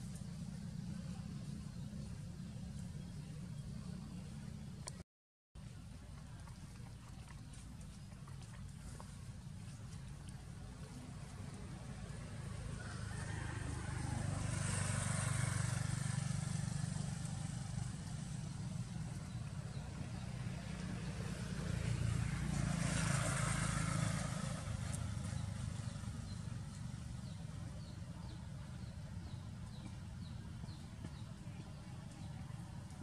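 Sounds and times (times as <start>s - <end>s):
passing motor vehicles: 0.0s - 5.0s, 5.8s - 33.0s.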